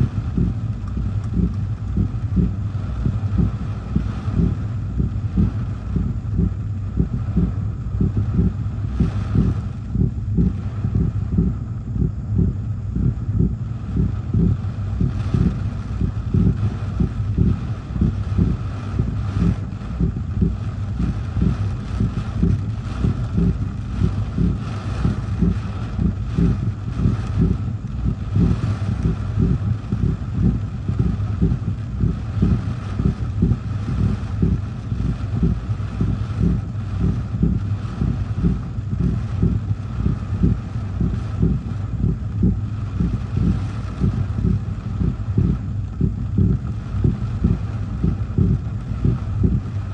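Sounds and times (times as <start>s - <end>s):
rain hissing: 0.0s - 49.9s.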